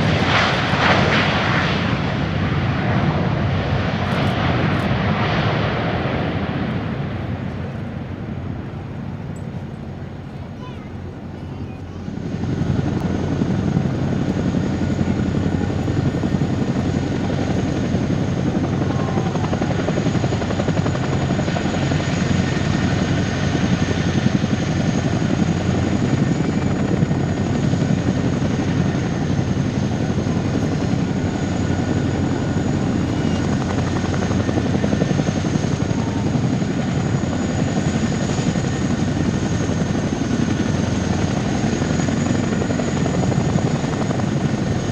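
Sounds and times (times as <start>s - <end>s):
helicopter rotor roar: 0.0s - 44.9s
high turbine whine: 0.0s - 44.9s.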